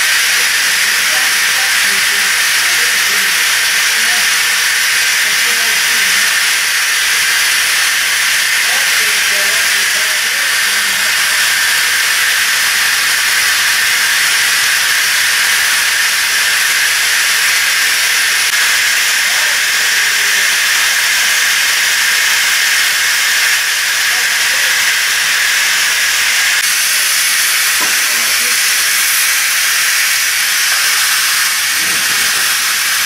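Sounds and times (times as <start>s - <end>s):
locomotive steam hissing: 0.0s - 33.0s.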